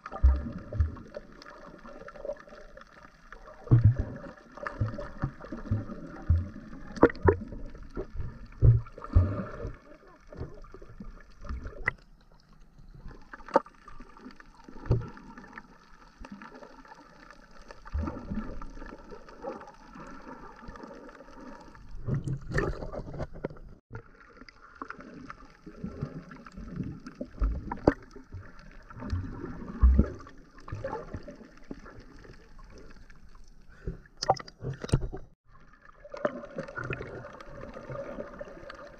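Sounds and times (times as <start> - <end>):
low bumps and knocks underwater: 0.0 - 2.6, 3.3 - 15.6, 20.6 - 38.9.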